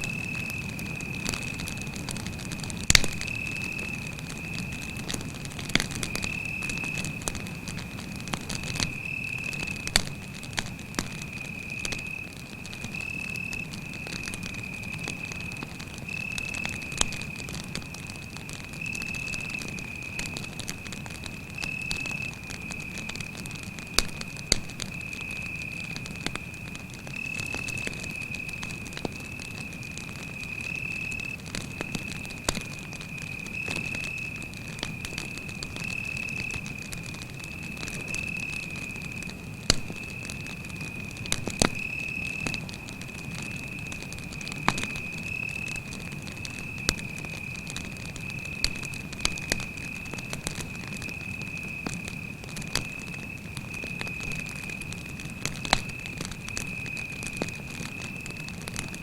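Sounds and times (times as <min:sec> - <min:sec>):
campfire crackling and popping: 0:00.0 - 0:59.0
cricket trilling: 0:00.0 - 0:59.0.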